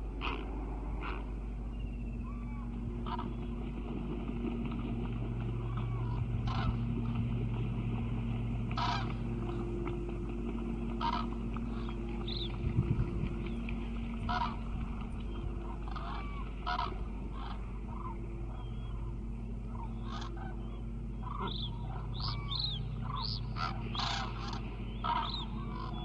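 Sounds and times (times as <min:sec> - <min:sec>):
cranes calling: 0:00.0 - 0:26.0
steady low hum: 0:00.0 - 0:26.0.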